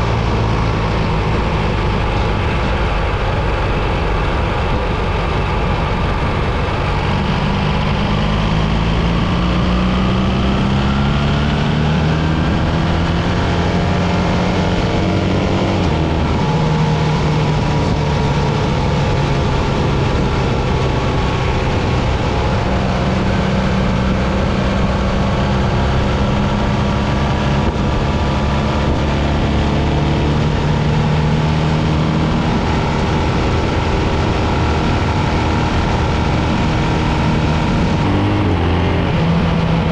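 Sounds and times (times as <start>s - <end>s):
motorcycle engine: 0.0s - 39.9s
rushing wind noise: 0.0s - 39.9s.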